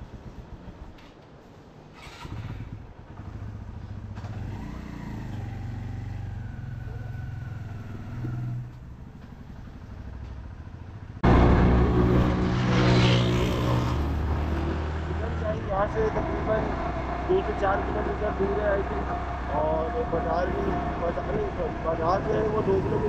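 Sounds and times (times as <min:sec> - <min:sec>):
motorcycle engine running: 0:02.5 - 0:23.0.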